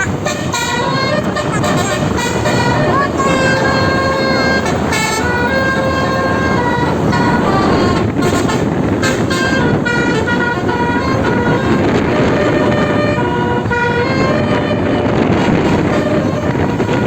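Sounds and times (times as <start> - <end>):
bus engine and tyres: 0.0 - 17.0
multi-tone bus horn playing a tune: 0.0 - 17.0.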